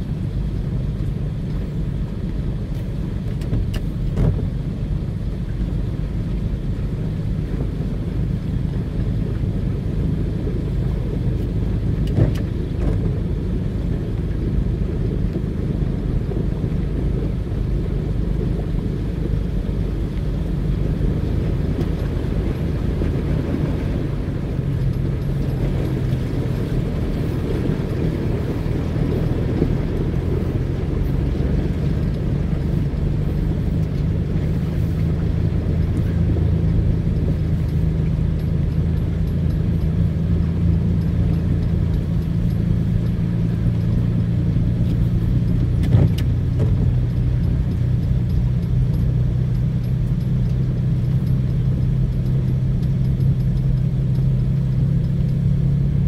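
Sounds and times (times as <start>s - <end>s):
engine hum and road rumble: 0.0s - 56.0s.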